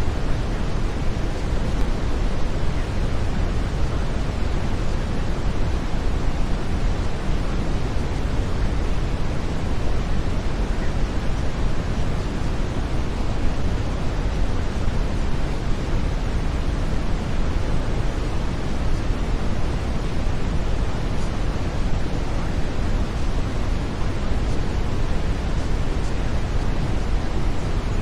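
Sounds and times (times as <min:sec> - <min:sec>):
brown noise: 0:00.0 - 0:28.0.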